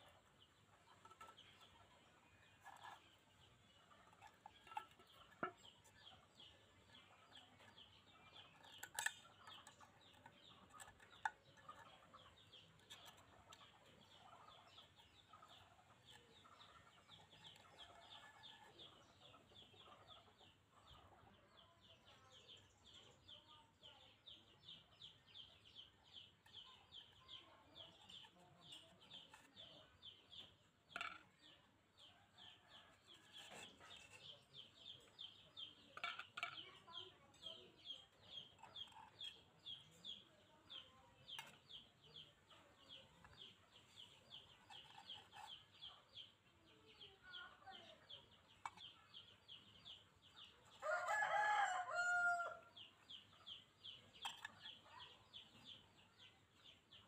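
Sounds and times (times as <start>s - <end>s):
chickens chirping: 0.0s - 30.7s, 31.3s - 57.0s.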